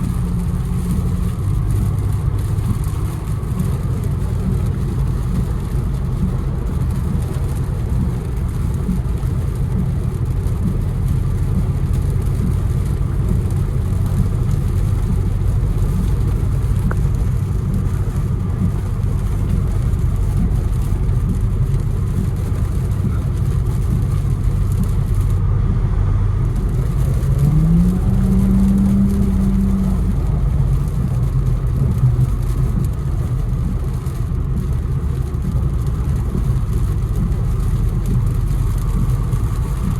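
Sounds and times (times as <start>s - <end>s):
car engine droning: 0.0s - 39.9s
tyres hissing on wet road: 0.0s - 39.9s.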